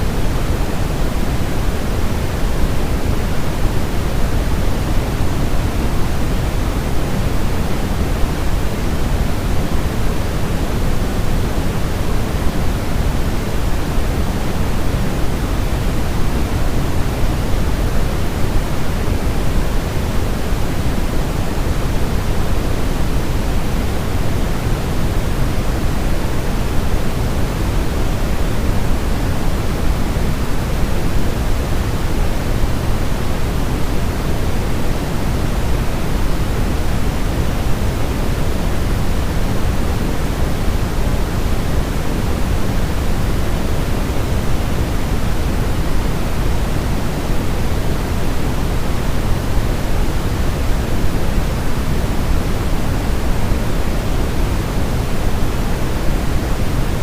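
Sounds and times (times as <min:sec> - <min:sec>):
bass-heavy pink noise hiss: 0:00.0 - 0:57.0.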